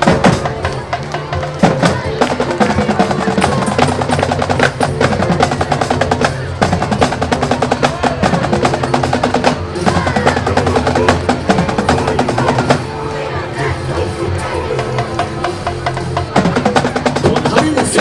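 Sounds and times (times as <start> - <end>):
snare drum rolls: 0.0 - 12.9, 15.2 - 18.0
marching band playing: 0.0 - 18.0.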